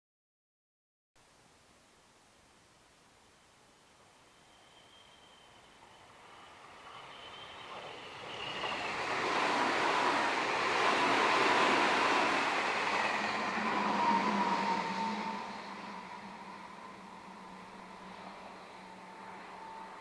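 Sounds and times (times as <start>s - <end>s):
electric train passing: 3.6s - 20.0s.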